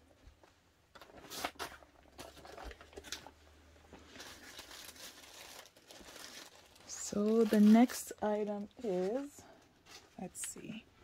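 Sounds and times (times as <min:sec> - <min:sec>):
packaging rustling: 0:00.9 - 0:10.2.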